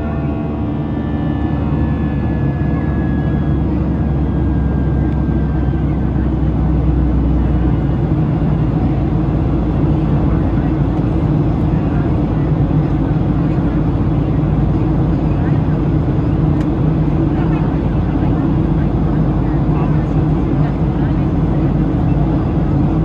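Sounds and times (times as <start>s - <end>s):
airplane cabin rumble: 0.0s - 23.0s
engine whine tones: 0.0s - 23.0s.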